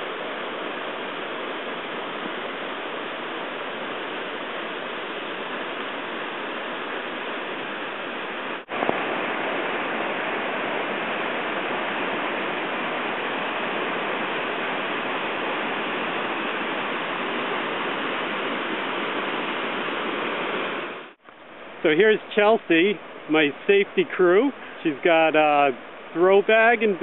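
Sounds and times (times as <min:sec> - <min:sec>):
river water rushing over rapids: 0:00.0 - 0:27.0.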